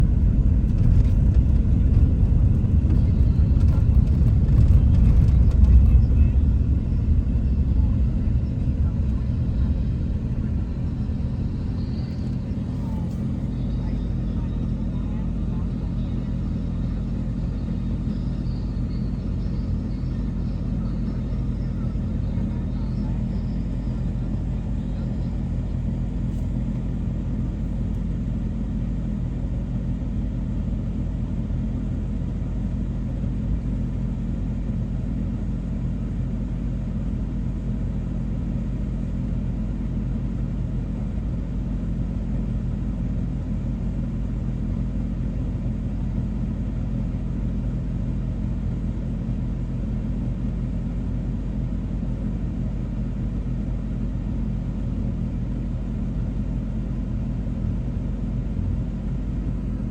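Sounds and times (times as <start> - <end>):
engine drone: 0.0 - 59.9
train low rumble: 0.0 - 59.9.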